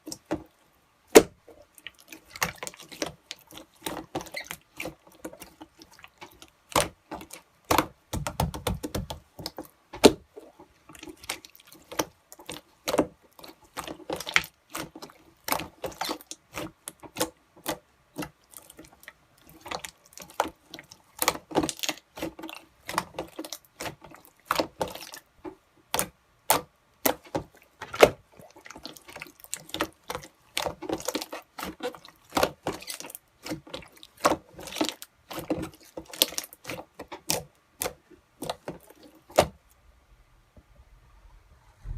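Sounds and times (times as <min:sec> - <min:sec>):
slime squished by hand: 0:00.0 - 0:39.6.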